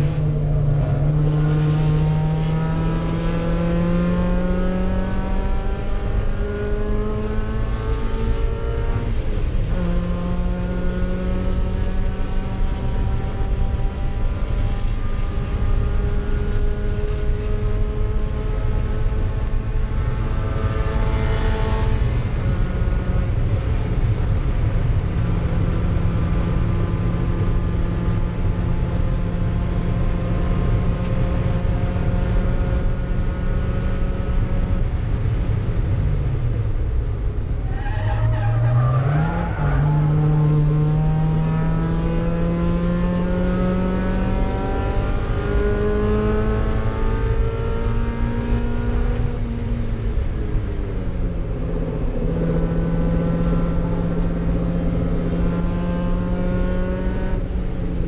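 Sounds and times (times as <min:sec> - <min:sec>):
race car engine revving: 0:00.0 - 0:36.8, 0:37.7 - 0:50.4, 0:51.1 - 0:57.8
wind and road noise: 0:00.0 - 0:58.0.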